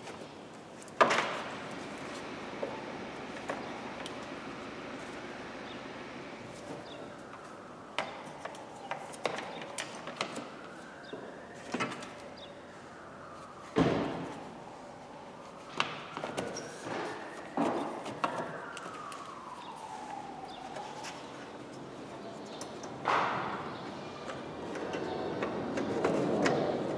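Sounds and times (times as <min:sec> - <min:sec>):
distant siren wailing: 0:01.0 - 0:26.9.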